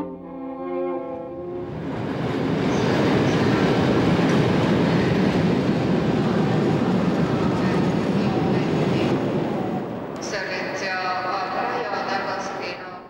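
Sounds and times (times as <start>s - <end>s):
train wheels running on rails: 1.6s - 12.4s.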